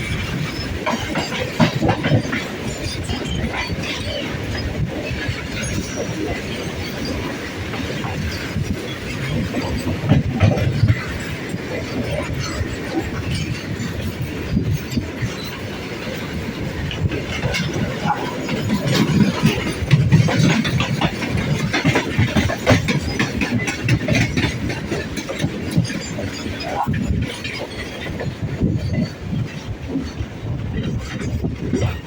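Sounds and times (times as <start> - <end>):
rail joint clacks and rattles: 0.0 - 32.0
train wheels rumbling: 0.0 - 32.0.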